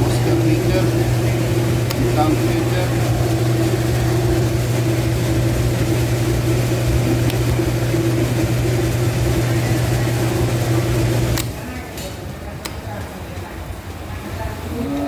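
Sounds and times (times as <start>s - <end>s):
dishwasher motor and pump hum: 0.0s - 15.0s.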